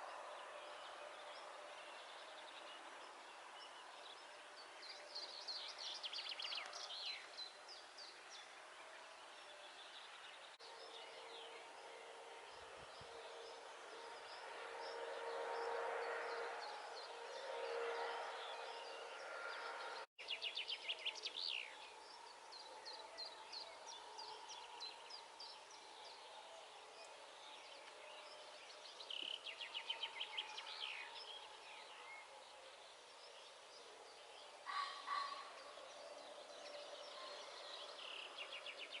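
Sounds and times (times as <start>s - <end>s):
songbirds chirping and trilling: 0.0s - 39.0s.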